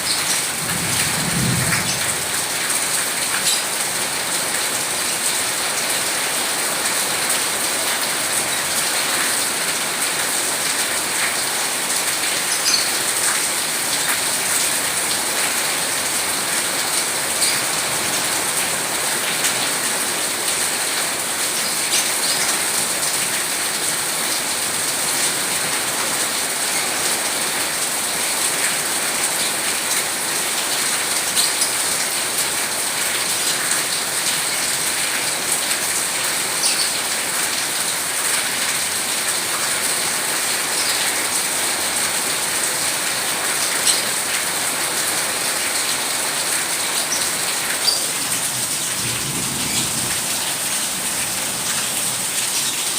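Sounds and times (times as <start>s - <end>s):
steady rain pattering: 0.0s - 52.9s.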